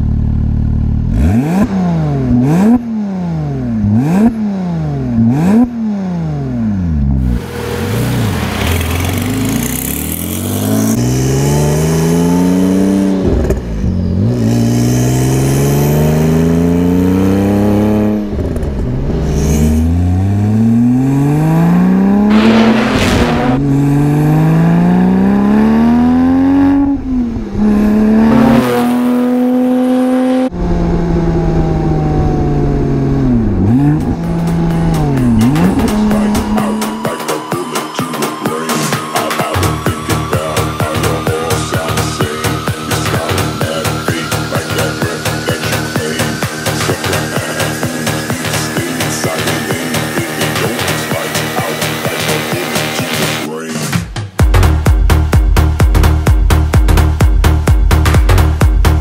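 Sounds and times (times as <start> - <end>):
sports car engine revving: 0.0 - 38.8, 39.5 - 53.5
car accelerating through gears: 1.1 - 53.5.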